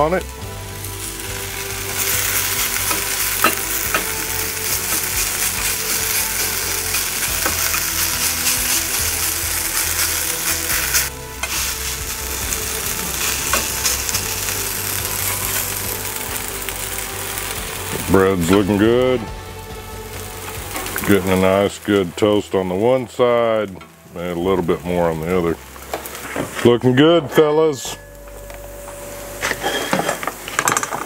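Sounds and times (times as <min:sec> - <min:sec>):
food sizzling in pans: 0:00.0 - 0:27.0, 0:28.0 - 0:31.0.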